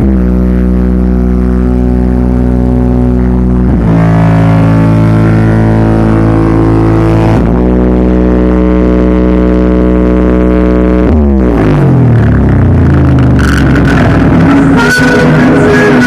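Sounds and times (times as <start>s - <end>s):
subwoofer low drone: 0.0s - 16.0s.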